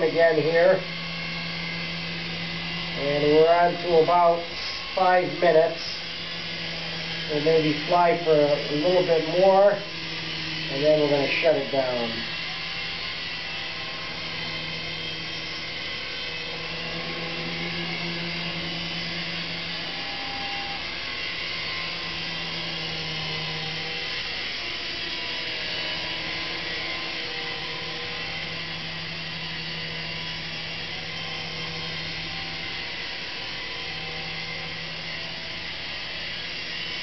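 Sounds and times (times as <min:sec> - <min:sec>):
toy helicopter rotors whirring: 0:00.0 - 0:37.0.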